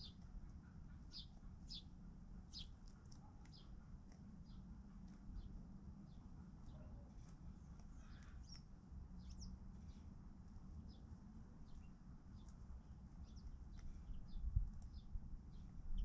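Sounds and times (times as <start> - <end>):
low steady rumble: 0.0 - 16.0
small birds chirping: 0.0 - 16.0.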